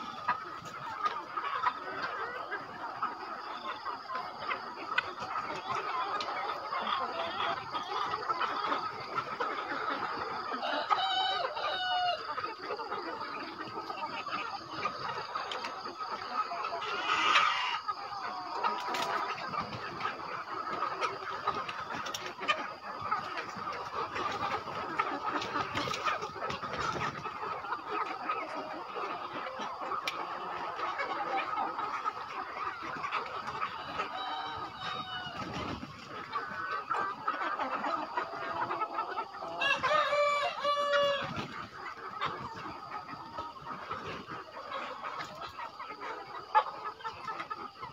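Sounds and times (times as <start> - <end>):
flock of hens clucking: 0.0 - 47.9
loud hen calls: 0.0 - 47.9.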